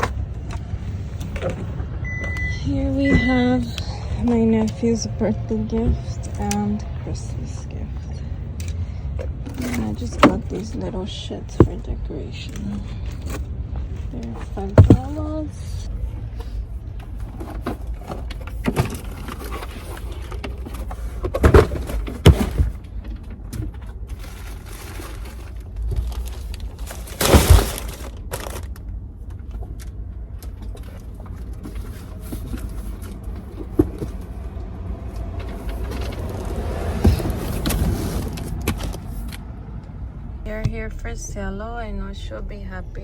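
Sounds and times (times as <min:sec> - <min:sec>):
road rumble inside car: 0:00.0 - 0:43.0.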